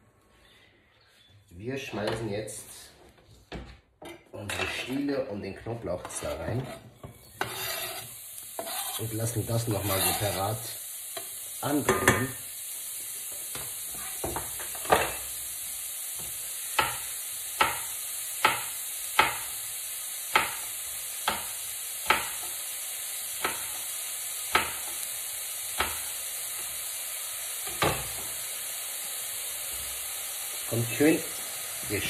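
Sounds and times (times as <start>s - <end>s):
garlic sizzling in oil: 4.5s - 32.0s.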